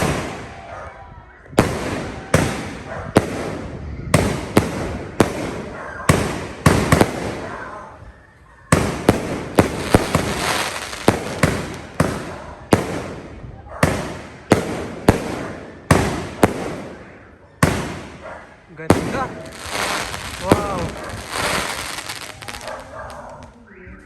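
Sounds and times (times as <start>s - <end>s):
firework bangs with hiss: 0.0s - 0.7s, 1.6s - 7.8s, 8.7s - 23.2s.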